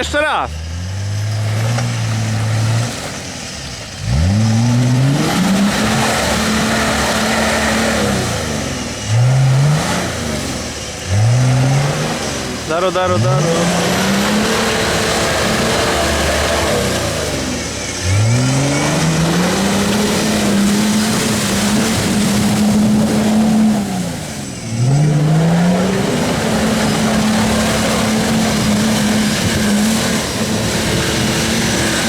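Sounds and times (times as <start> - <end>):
off-road engine revving hard: 0.0 - 32.0.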